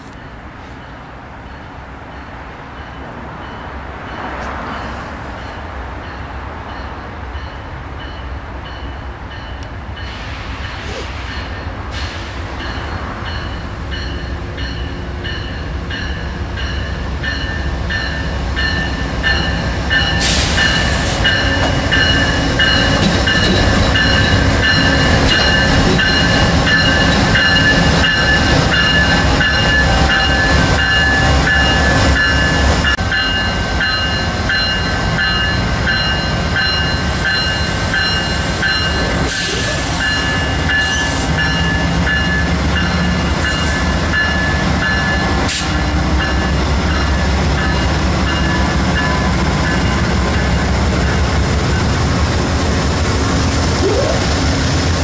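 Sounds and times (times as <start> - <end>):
train passing at speed: 0.0 - 55.0.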